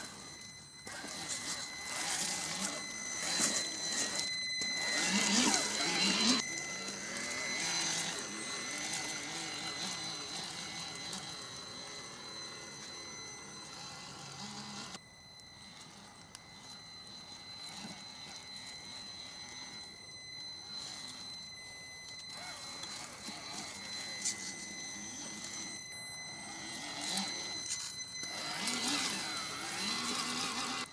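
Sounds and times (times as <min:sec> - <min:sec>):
electric motor and gears whining: 0:00.0 - 0:30.9.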